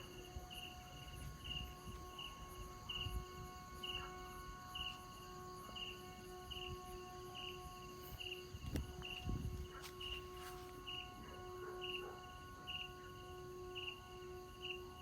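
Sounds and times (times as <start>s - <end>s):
kite flute drone: 0.0s - 15.0s.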